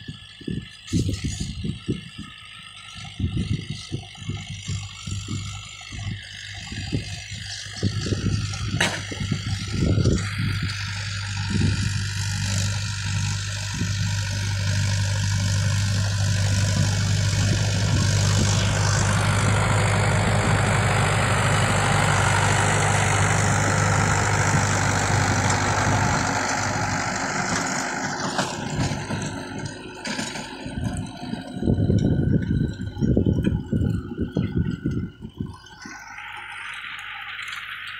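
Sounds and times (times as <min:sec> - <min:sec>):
rotavator tilling soil: 0:00.0 - 0:37.9
tractor diesel engine running: 0:00.0 - 0:37.9.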